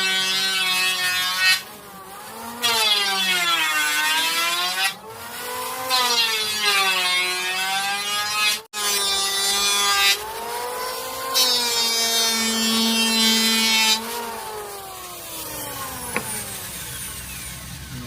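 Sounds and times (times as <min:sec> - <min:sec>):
power tool cutting wood: 0:00.0 - 0:18.0
power tool motor whine: 0:00.0 - 0:18.0.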